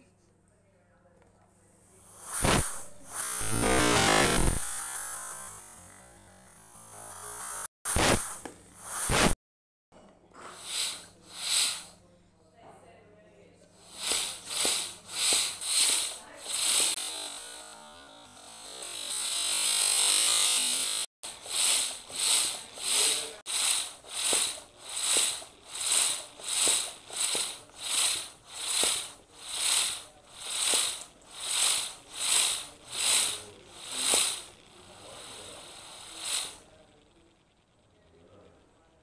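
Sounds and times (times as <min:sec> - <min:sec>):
bicycle pump air hiss: 0:01.8 - 0:09.4, 0:10.4 - 0:12.0, 0:13.8 - 0:17.6, 0:18.4 - 0:37.1.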